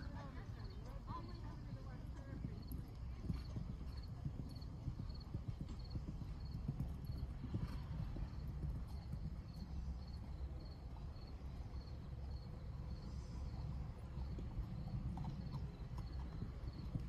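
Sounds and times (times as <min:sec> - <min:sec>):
horse hoofbeats on sand: 0:00.0 - 0:12.4, 0:13.6 - 0:17.0.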